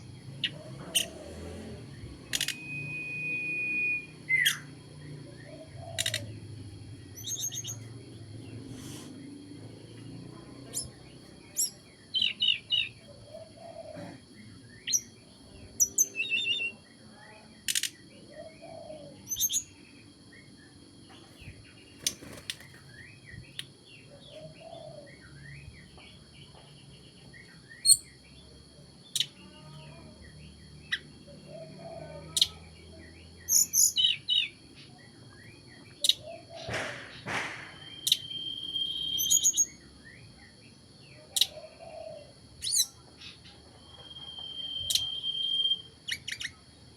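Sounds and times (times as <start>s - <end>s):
songbird chirping and twittering: 0.0s - 46.9s.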